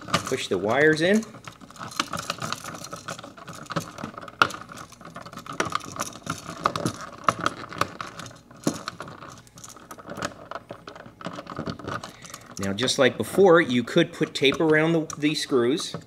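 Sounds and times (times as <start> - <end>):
clicking and rattling in plastic box: 0.0 - 16.0.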